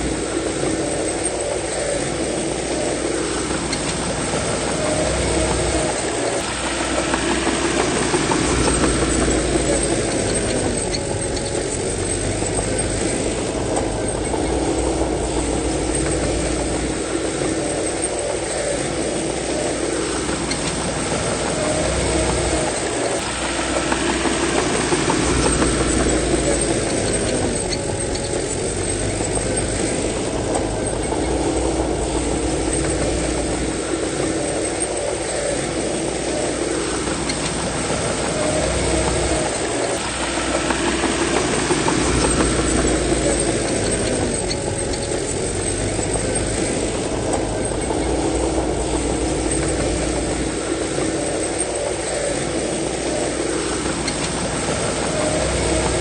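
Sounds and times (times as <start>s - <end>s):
bulldozer diesel engine working: 0.0s - 56.0s.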